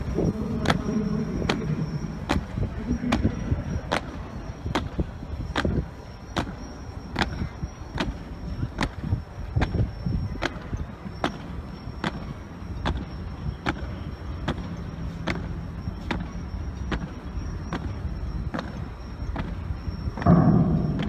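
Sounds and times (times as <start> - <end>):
low traffic rumble: 0.0 - 21.0
sharp marching beats: 0.0 - 21.0.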